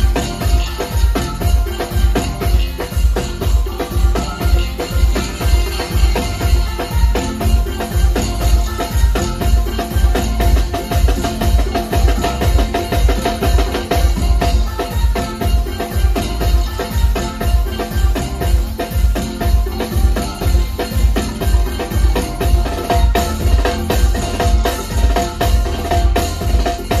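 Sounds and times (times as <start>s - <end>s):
busy percussion: 0.0s - 27.0s
live band playing loud music: 0.0s - 27.0s.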